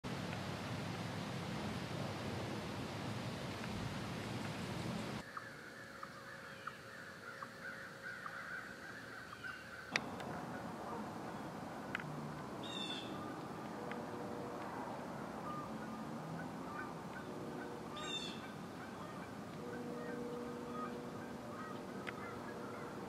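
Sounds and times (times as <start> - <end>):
faint scattered bird calls: 0.3 - 23.0.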